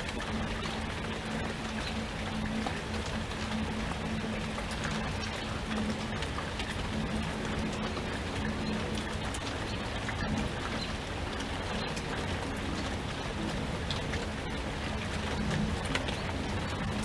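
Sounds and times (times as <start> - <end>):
raindrops clicking on a surface: 0.0 - 17.0
steady rain falling: 0.0 - 17.0.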